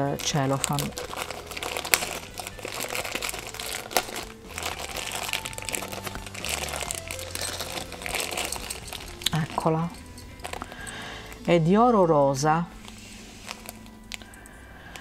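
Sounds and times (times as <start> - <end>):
cellophane crinkling: 0.0 - 11.6, 12.7 - 14.4.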